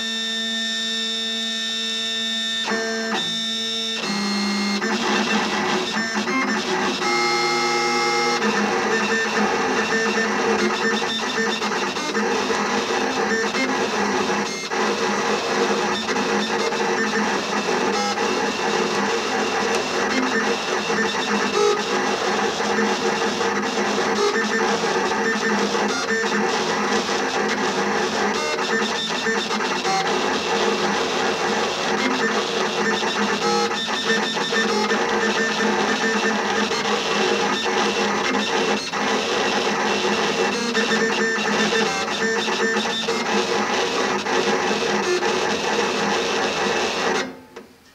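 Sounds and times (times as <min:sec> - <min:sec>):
plotter stepper motors running: 0:00.1 - 0:47.4.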